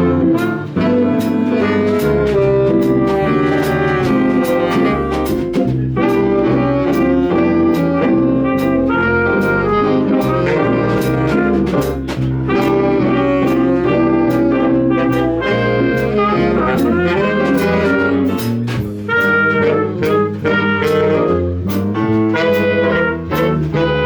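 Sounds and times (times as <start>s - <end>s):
drum strokes: 0.0s - 24.0s
jazz big band playing: 0.0s - 24.0s.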